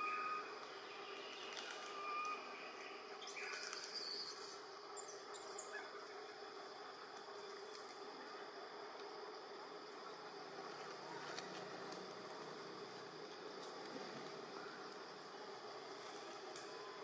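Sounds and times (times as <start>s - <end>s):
forest background hum: 0.0s - 17.0s.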